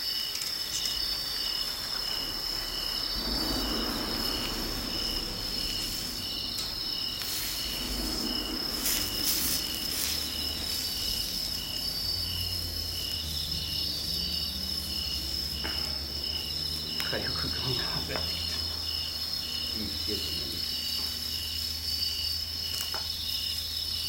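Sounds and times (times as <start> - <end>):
campfire crackles: 0.0 - 24.0
insect high trill: 0.0 - 24.0
insect pulsing chirp: 0.0 - 24.0.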